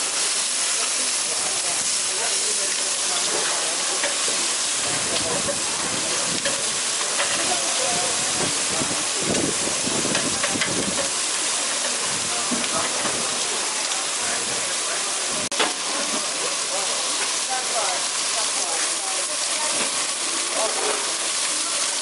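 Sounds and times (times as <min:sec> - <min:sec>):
fish sizzling on a grill: 0:00.0 - 0:22.0.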